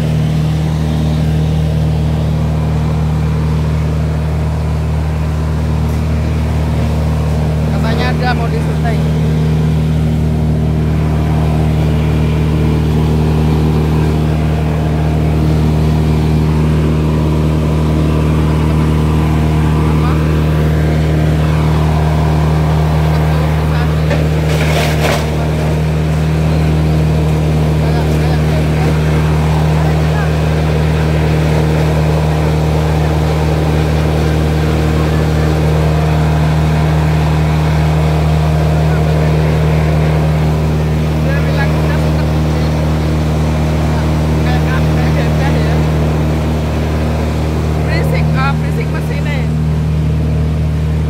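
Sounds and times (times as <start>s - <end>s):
wood chipper engine drone: 0.0s - 51.0s.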